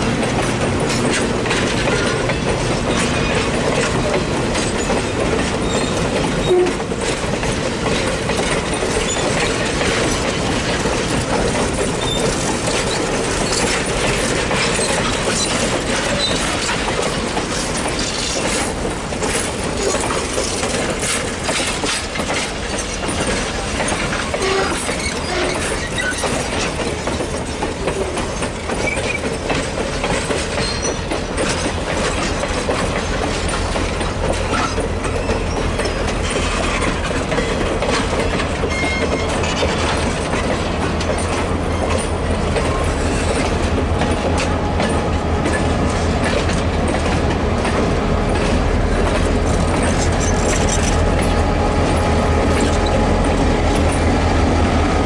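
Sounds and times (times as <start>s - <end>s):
diesel locomotive rumble: 0.0s - 55.0s
train wheels clickety-clack: 0.0s - 55.0s.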